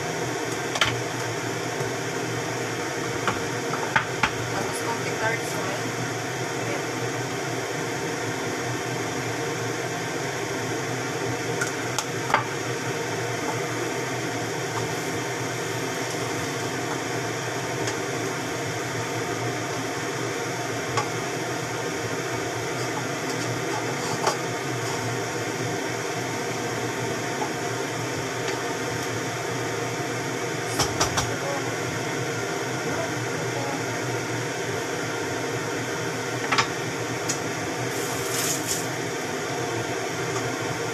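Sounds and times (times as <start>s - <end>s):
mechanical kitchen hum: 0.0s - 40.9s.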